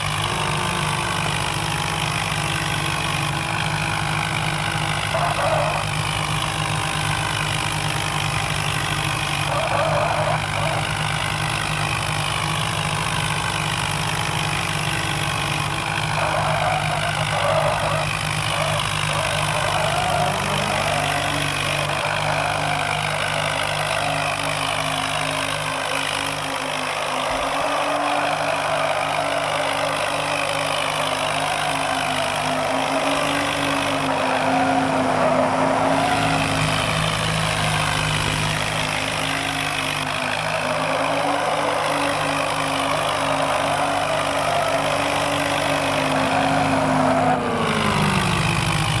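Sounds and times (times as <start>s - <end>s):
off-road vehicle engine running: 0.0s - 49.0s
tractor engine running: 0.0s - 49.0s.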